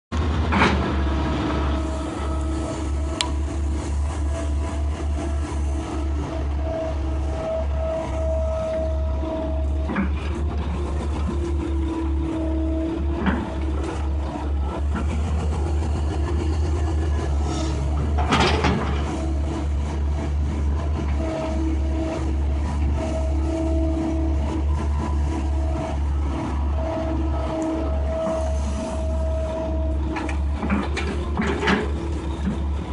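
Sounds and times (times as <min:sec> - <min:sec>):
excavator diesel engine running: 0:00.1 - 0:32.9
whine shifting in pitch: 0:00.2 - 0:32.9.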